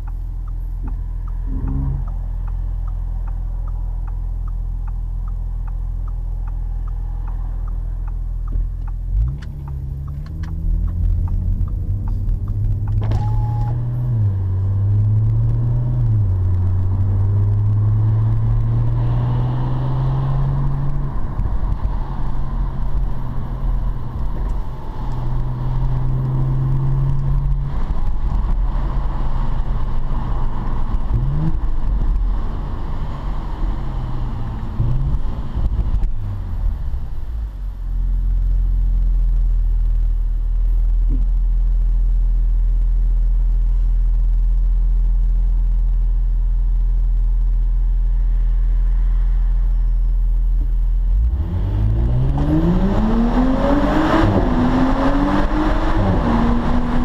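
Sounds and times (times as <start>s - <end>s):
car engine: 0.0s - 57.0s
road noise inside cabin: 0.0s - 57.0s.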